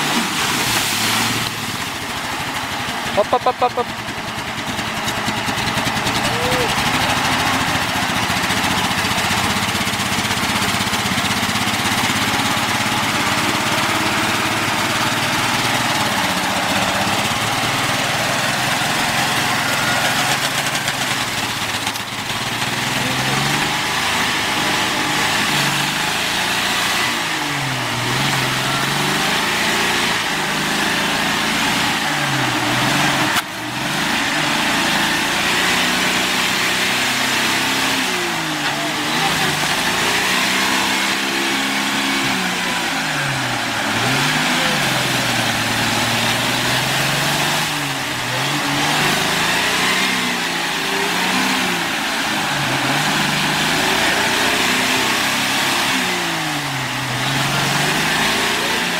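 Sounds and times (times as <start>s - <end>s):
off-road vehicle engine revving: 0.0s - 58.9s.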